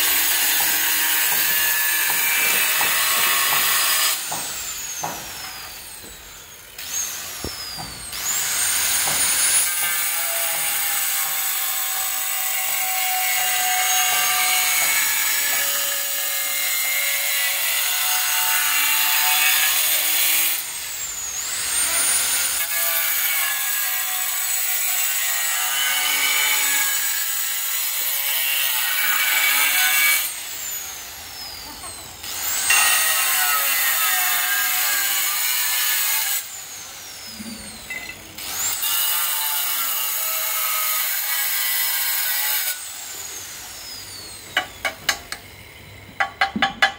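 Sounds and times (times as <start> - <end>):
angle grinder cutting tile: 0.0 - 45.5.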